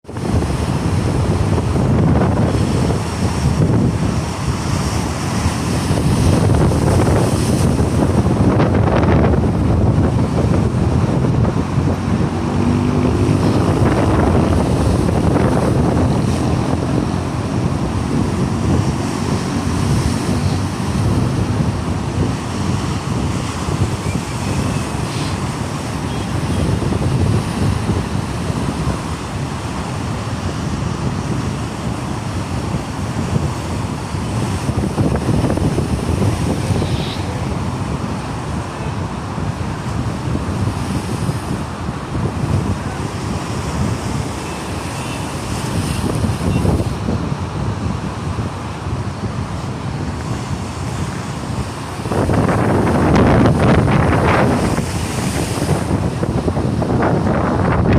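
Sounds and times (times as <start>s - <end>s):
sea waves breaking against rocks: 0.0s - 57.9s
wind buffeting microphone: 0.0s - 57.9s.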